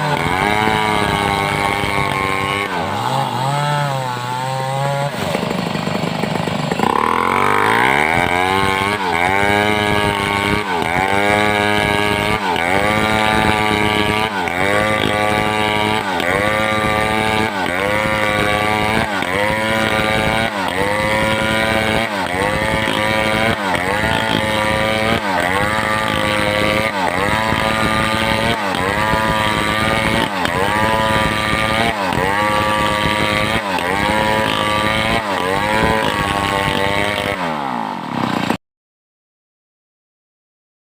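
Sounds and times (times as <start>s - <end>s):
chainsaw cutting timber: 0.0s - 38.6s.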